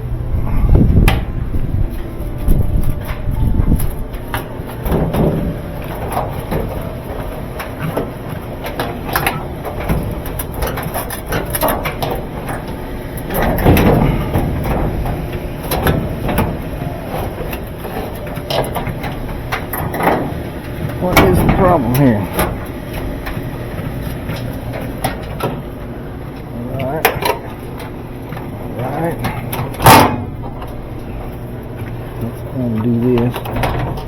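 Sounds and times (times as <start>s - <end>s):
steady low rumble: 0.0s - 34.0s
knocks and clatter of repair work: 1.0s - 34.0s.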